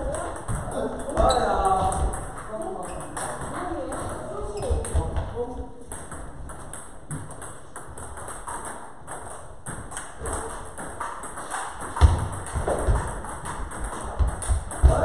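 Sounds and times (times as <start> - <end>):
table tennis balls clicking: 0.0 - 5.1, 5.8 - 15.0.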